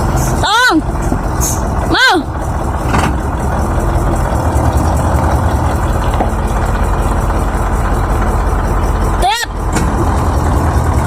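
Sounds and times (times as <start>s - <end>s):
heavy vehicle engine idling: 0.0s - 11.0s.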